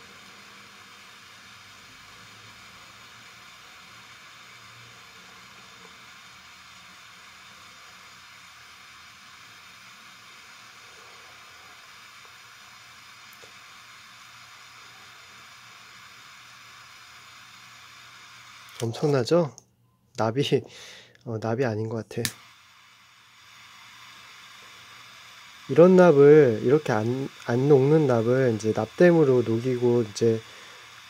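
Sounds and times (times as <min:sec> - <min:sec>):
gas torch hissing: 0:00.0 - 0:19.4, 0:20.4 - 0:31.0.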